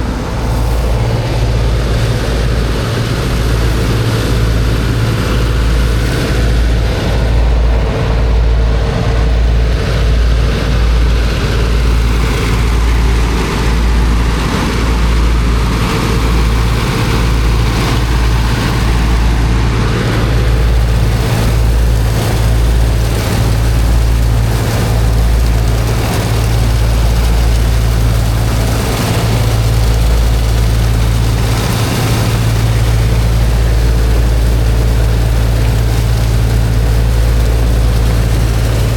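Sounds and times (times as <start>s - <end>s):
water pump engine humming: 0.0s - 38.9s.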